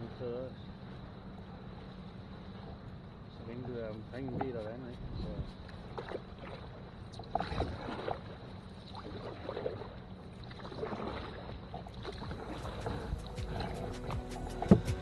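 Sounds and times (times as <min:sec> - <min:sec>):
water swishing along hull: 0:00.0 - 0:15.0
paddle strokes: 0:00.8 - 0:15.0.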